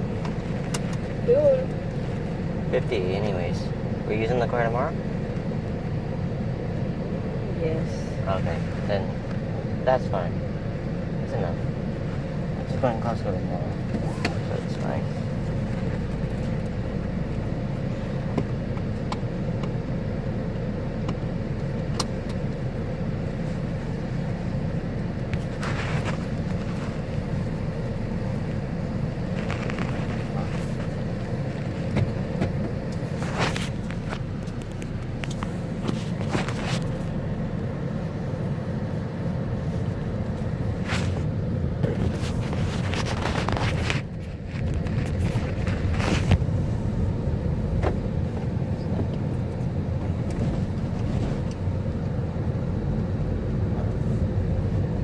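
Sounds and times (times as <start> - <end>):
car engine rumble in cabin: 0.0 - 55.0.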